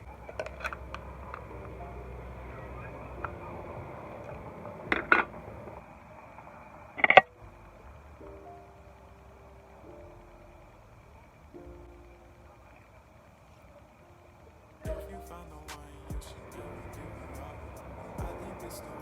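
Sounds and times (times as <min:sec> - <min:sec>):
faint background music: 0:00.0 - 0:19.0.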